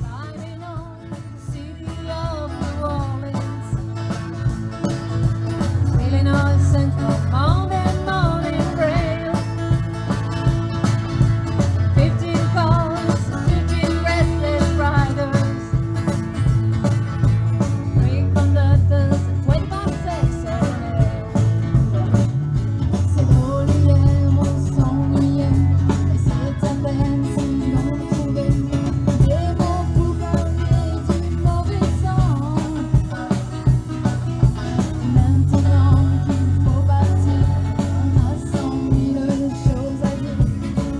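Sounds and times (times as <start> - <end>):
bending lead guitar melody: 0.0 - 40.9
country rock band playing: 0.0 - 40.9.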